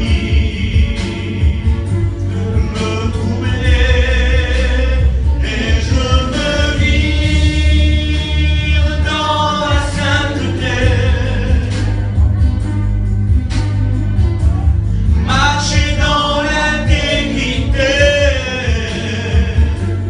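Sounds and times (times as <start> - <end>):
voices singing worship song: 0.0 - 12.3, 15.0 - 20.0
music with heavy bass: 0.0 - 20.0.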